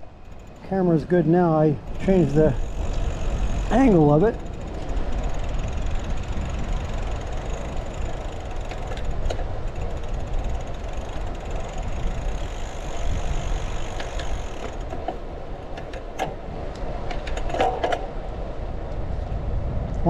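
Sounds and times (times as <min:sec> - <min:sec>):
bike tyres rolling on asphalt: 0:00.0 - 0:19.8
wind buffeting microphone: 0:00.0 - 0:20.0.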